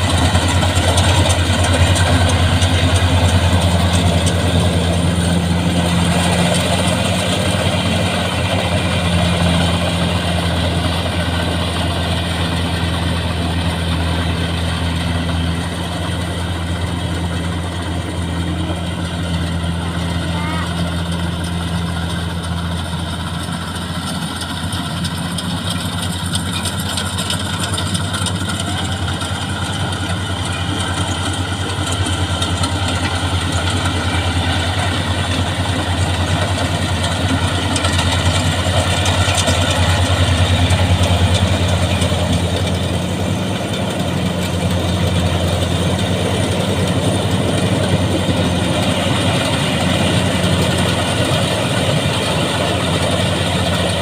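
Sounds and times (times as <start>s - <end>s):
clatter of machinery: 0.0s - 54.0s
combine harvester engine humming: 0.0s - 54.0s.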